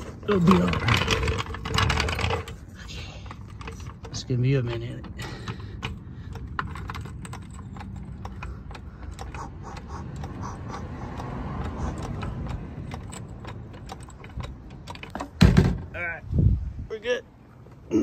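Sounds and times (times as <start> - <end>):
car jack clicking and rattling: 0.0 - 15.9.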